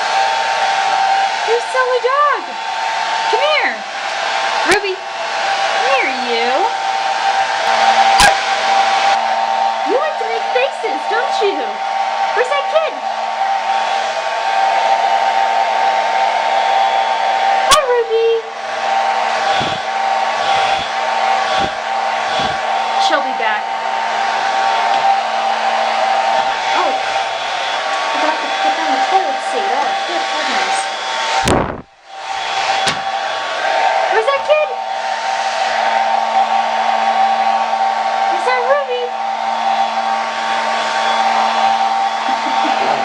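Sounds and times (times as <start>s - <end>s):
blow dryer whirring: 0.0s - 43.0s.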